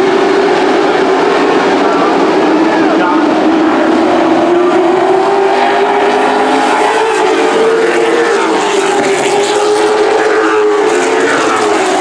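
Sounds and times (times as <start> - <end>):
race truck engines running: 0.0 - 12.0.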